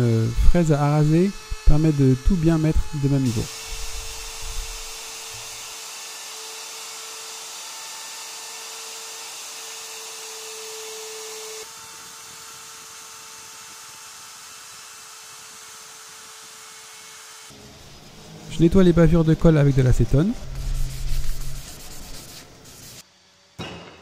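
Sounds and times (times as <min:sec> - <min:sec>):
electric router high whine: 0:00.0 - 0:23.5.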